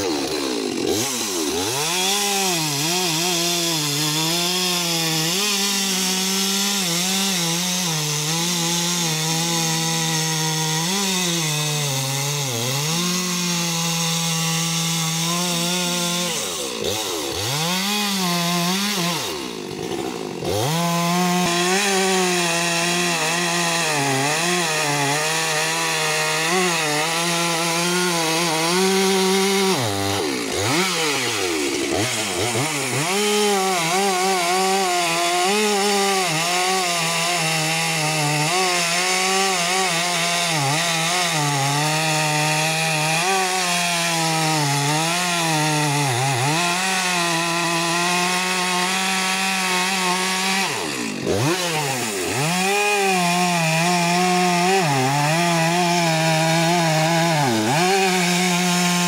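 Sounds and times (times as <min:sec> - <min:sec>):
chainsaw cutting through wood: 0:00.0 - 0:59.0.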